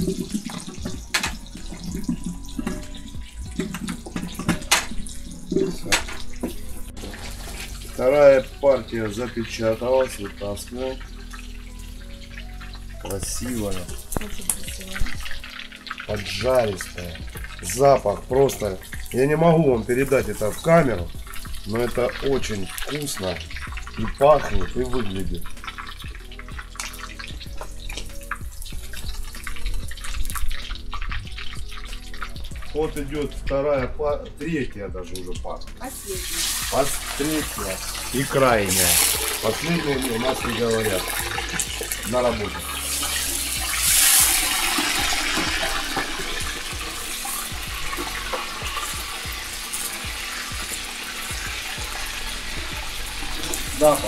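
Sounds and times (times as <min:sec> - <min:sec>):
oil sizzling with pops: 0:00.0 - 0:54.0.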